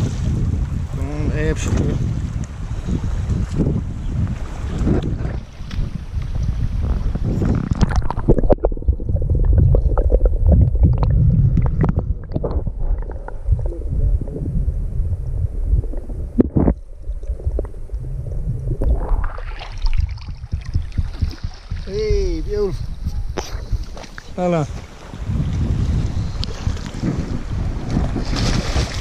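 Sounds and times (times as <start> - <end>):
underwater stream rumble and gurgling: 0.0 - 29.0.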